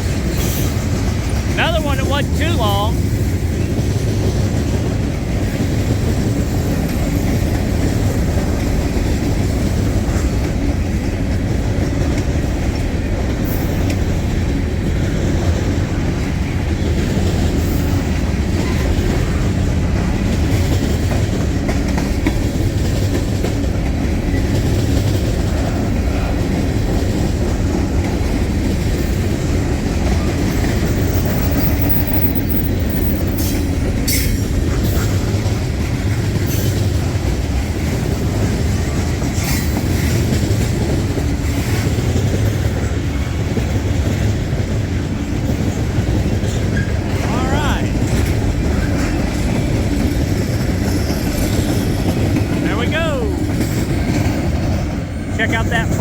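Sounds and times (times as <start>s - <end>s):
clickety-clack of rail joints: 0.0s - 1.6s, 3.2s - 47.0s, 48.0s - 52.6s.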